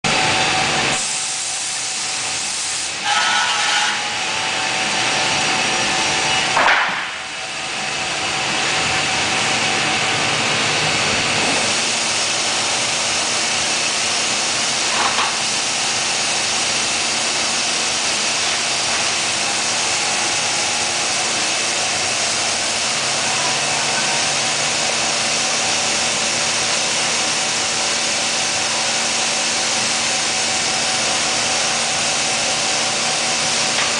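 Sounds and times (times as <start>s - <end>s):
cnc router cutting wood: 2.9s - 33.9s.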